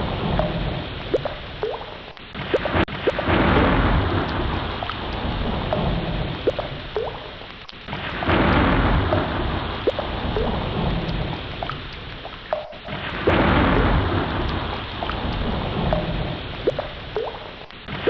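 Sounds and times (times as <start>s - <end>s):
ocean waves washing in: 0.0s - 18.0s.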